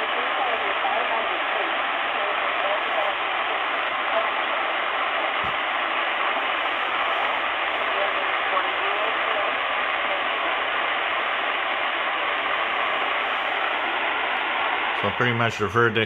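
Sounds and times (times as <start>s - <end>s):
weak voice over radio: 0.0s - 14.2s, 15.0s - 16.0s
shortwave radio static hiss: 0.0s - 16.0s.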